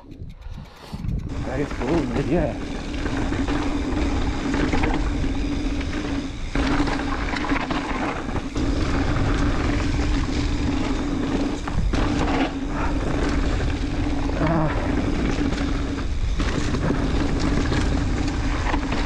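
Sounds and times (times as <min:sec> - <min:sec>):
steady buzz: 0:00.0 - 0:19.0
wind rushing over microphone: 0:00.0 - 0:19.0
tyres rolling over rough ground: 0:01.3 - 0:19.0.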